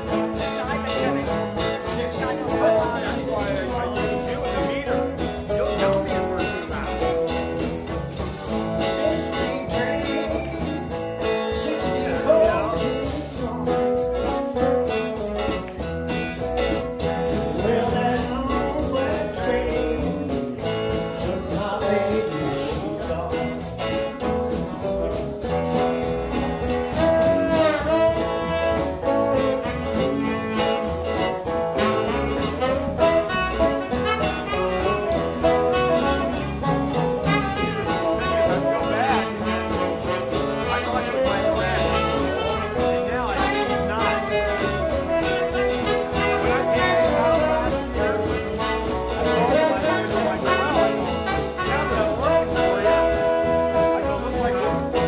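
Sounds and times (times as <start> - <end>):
blues band playing: 0.0 - 55.0
man singing: 0.0 - 55.0.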